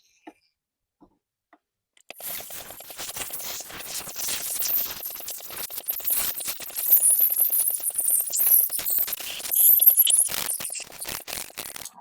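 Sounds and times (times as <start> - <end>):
steam wand frothing milk: 2.1 - 12.0.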